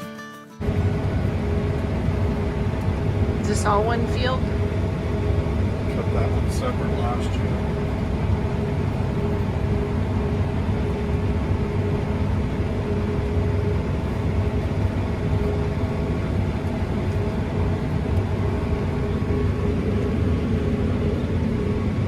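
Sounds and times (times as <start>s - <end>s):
combine harvester droning: 0.6s - 22.0s.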